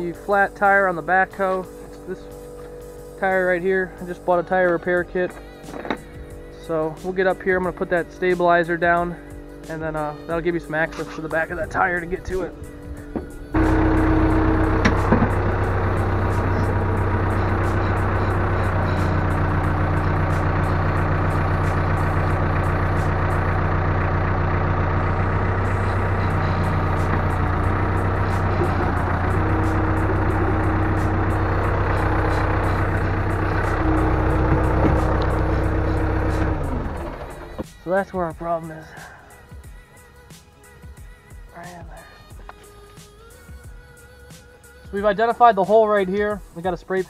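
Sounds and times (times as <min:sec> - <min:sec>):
backhoe engine running: 0:00.0 - 0:39.8.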